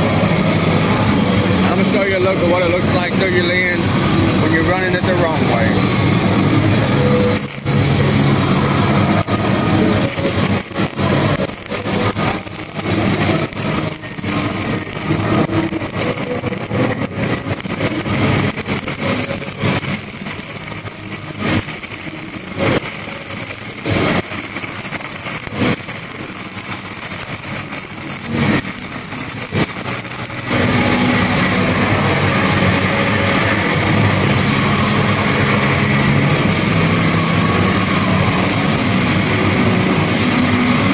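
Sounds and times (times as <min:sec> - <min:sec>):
steady hiss and hum: 0:00.0 - 0:40.9
welding arc crackling and popping: 0:00.0 - 0:40.9.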